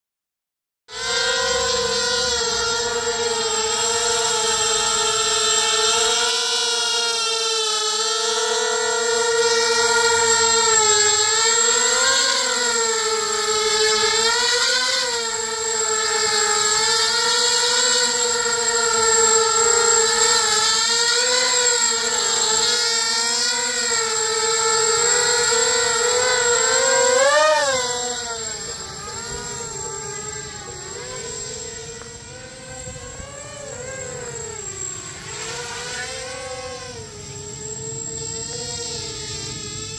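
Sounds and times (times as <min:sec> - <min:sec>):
drone motors whining: 0:00.9 - 0:39.9.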